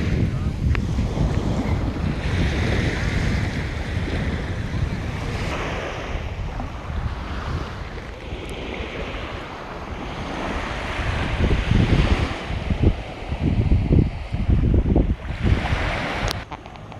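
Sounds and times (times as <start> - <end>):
surf washing onto beach: 0.0 - 16.9
wind rumbling on microphone: 0.0 - 16.9.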